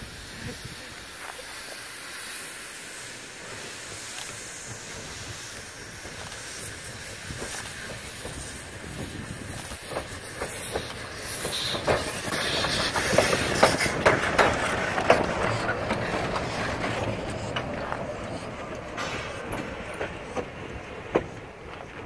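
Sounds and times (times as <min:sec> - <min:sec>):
steam hissing: 0:00.0 - 0:22.0
train wheels clanking on track: 0:00.0 - 0:22.0.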